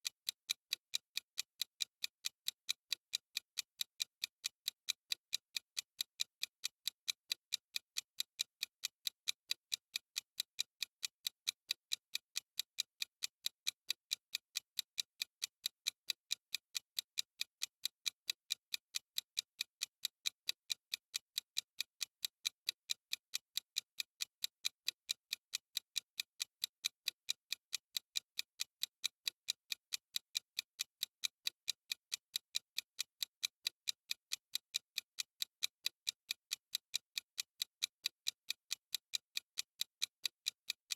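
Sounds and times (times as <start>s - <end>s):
high clock ticks: 0.0s - 40.9s.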